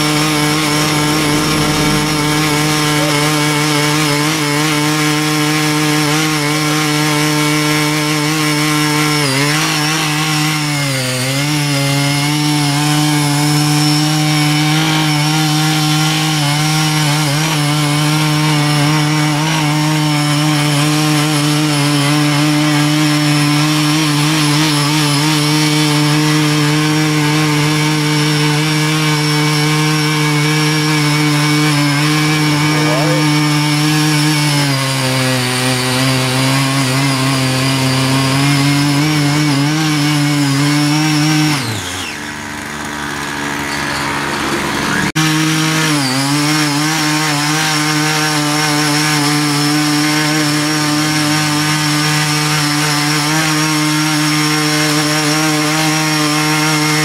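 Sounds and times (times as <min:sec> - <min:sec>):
blades churning soil: 0:00.0 - 0:42.2, 0:44.9 - 0:57.0
tiller engine running: 0:00.0 - 0:57.0.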